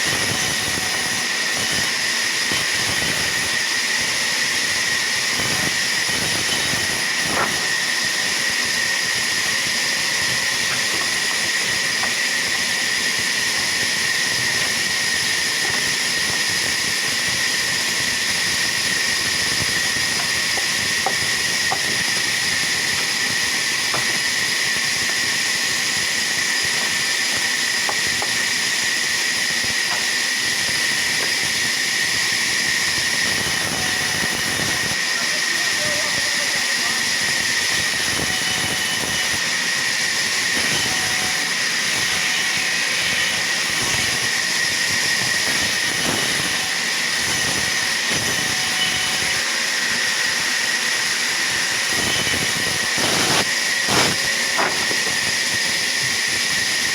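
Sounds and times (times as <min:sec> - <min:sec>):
saw cutting wood: 0:00.0 - 0:56.9.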